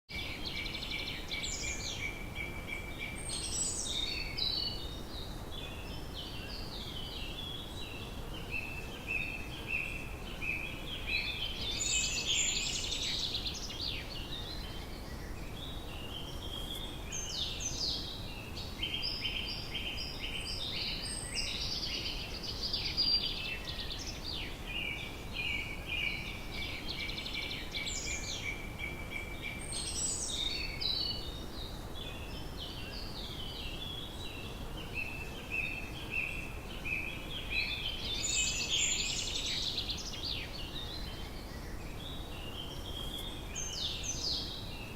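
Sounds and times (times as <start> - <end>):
birds chirping and trilling: 0.1 - 44.9
low background hiss: 0.1 - 44.9.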